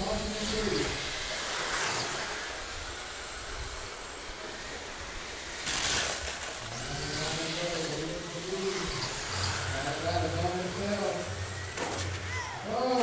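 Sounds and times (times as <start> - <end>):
rc car motors and tyre hiss: 0.0 - 13.0.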